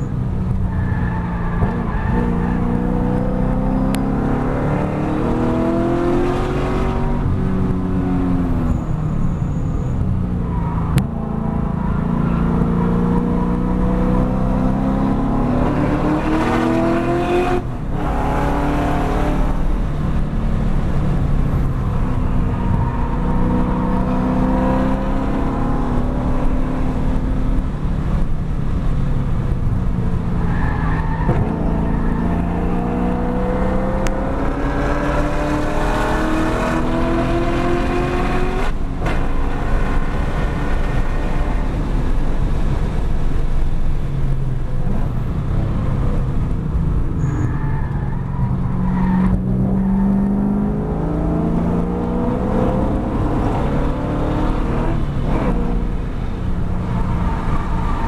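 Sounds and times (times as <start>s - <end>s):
car engine revving under full throttle: 0.0s - 8.7s, 10.5s - 44.0s, 48.5s - 58.0s.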